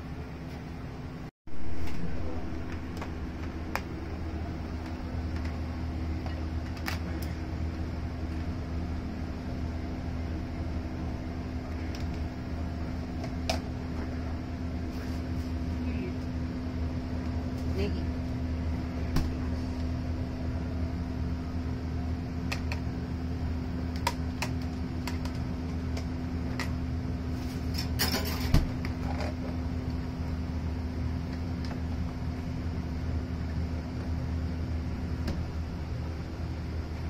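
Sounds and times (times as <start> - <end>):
kitchen equipment humming: 0.0 - 37.0.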